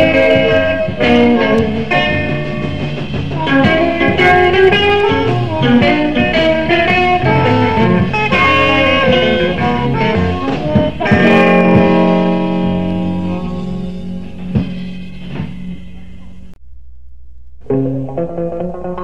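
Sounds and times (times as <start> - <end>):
bass guitar: 0.0 - 19.0
drums: 0.0 - 19.0
electric guitar notes: 0.0 - 19.0.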